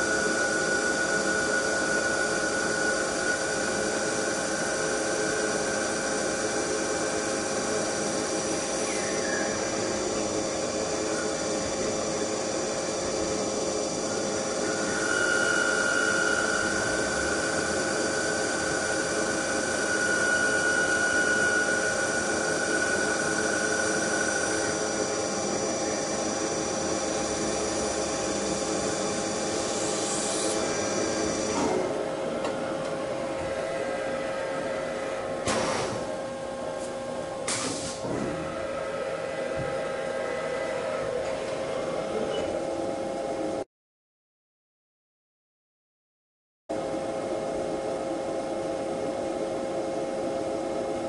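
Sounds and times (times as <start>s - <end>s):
machine tool motor whine: 0.0s - 36.2s, 37.7s - 42.6s.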